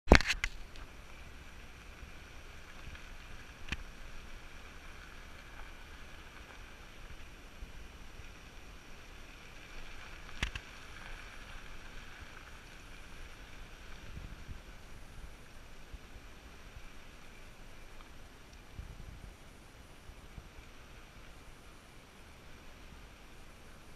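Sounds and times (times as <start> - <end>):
low outdoor rumble: 0.3 - 23.9.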